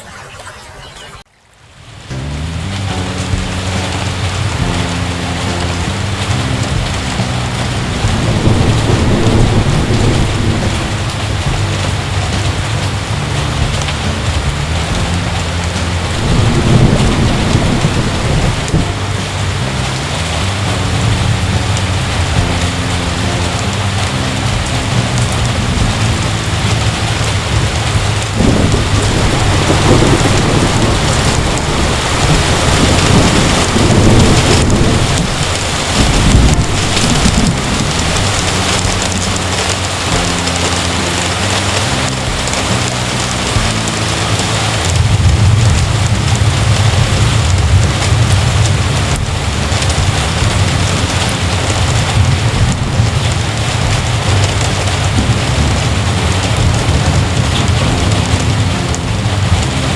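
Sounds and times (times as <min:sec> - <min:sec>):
heavy rain falling: 0:00.0 - 0:59.9
thunder rumbling: 0:01.8 - 0:59.9.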